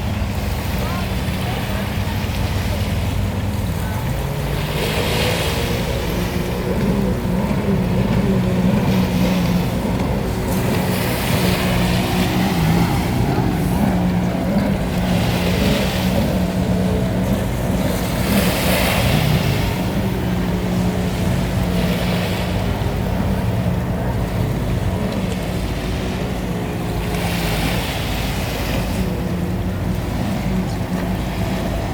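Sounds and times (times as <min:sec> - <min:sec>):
motorboat engine droning: 0:00.0 - 0:31.9.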